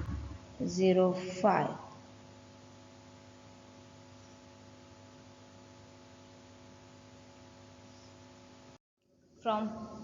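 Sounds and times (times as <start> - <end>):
faint electrical hum with hiss: 0.0 - 10.0.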